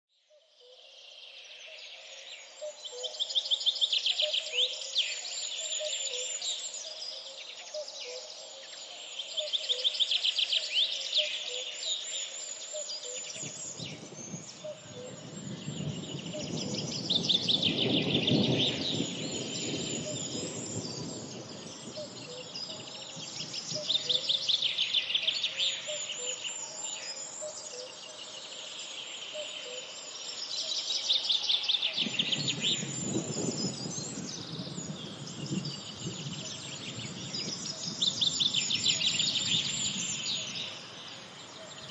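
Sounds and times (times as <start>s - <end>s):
songbirds singing: 0.3s - 41.9s.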